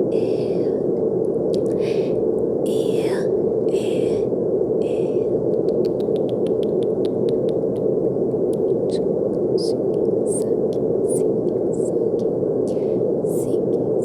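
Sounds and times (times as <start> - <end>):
brown noise: 0.0 - 14.0.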